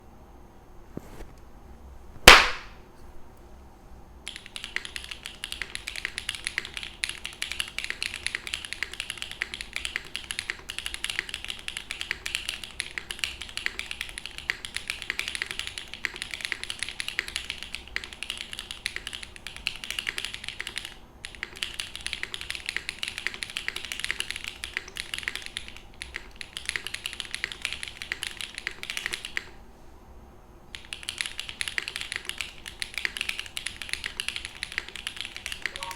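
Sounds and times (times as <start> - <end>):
mechanical keyboard typing: 4.3 - 29.6, 30.7 - 35.9.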